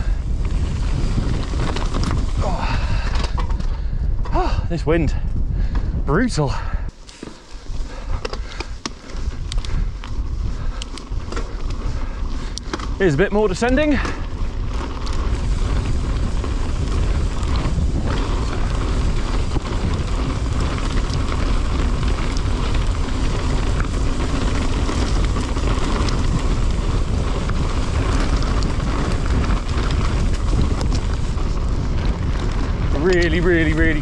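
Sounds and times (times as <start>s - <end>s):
bike rumbling and rattling: 0.0s - 34.0s
wind buffeting microphone: 0.0s - 34.0s.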